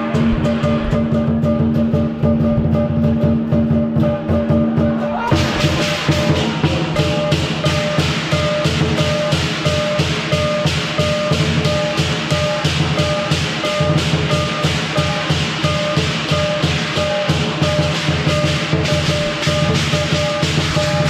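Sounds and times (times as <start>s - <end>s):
hand cymbals: 0.0s - 21.0s
large drum beating: 0.0s - 21.0s.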